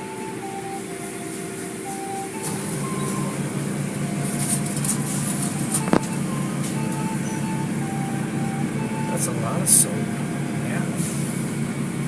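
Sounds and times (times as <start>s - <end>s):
tune of short high tones: 0.0s - 11.6s
car wash machinery humming: 0.0s - 12.0s.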